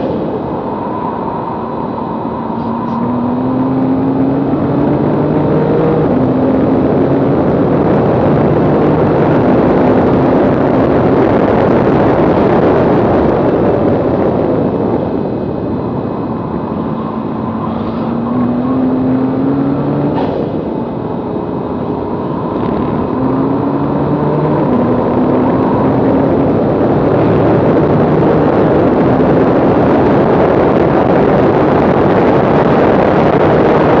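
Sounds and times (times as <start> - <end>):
wind and tyre roar: 0.0 - 34.0
car engine revving through gears: 1.6 - 15.0, 15.8 - 34.0.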